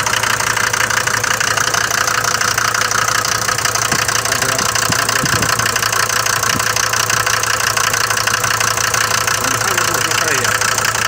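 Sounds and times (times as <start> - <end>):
diesel engine knocking clatter: 0.0 - 11.0.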